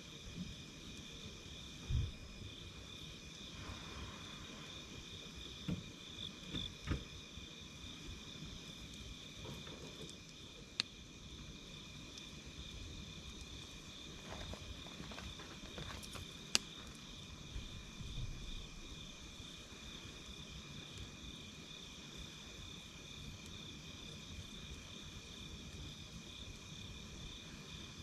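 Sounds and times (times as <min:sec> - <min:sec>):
campfire crackling: 0:00.0 - 0:28.0
night insects singing: 0:00.0 - 0:28.0.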